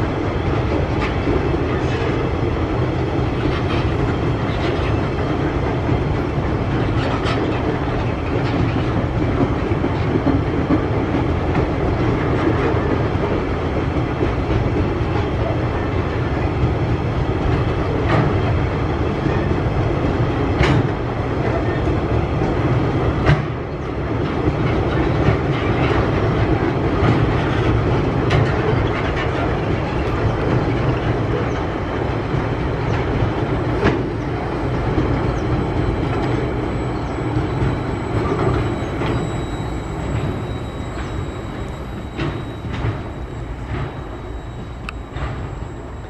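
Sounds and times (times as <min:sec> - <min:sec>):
freight wagons rumbling on track: 0:00.0 - 0:46.0.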